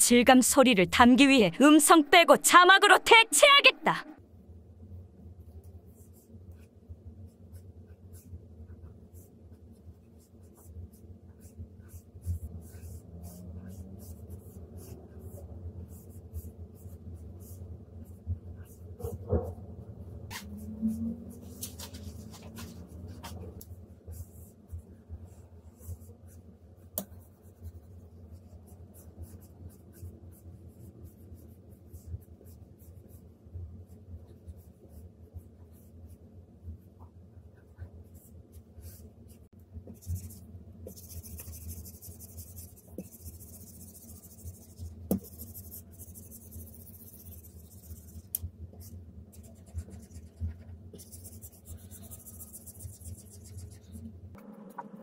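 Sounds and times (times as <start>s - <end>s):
low steady hum: 0.0s - 55.0s
stylus scratching on screen: 5.5s - 36.9s, 37.5s - 55.0s.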